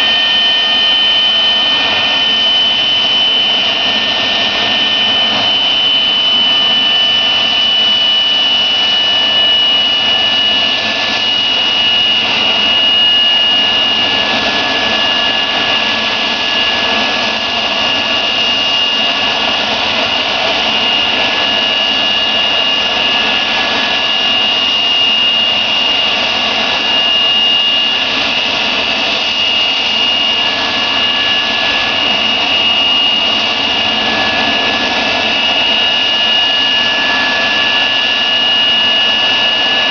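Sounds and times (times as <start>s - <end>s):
high steady engine whine: 0.0s - 39.9s
jet engines running: 0.0s - 39.9s.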